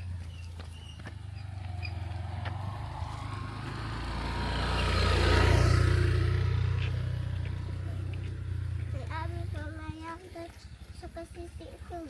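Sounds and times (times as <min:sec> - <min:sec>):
vehicle engine passing by: 0:00.0 - 0:09.9.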